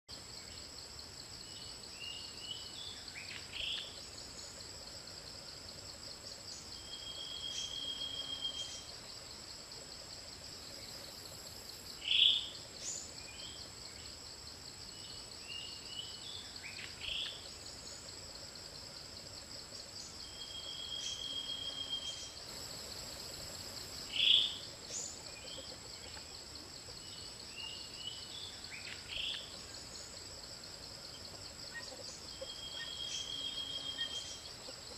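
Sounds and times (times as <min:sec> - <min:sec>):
pulsing insect chorus: 0:00.1 - 0:34.9.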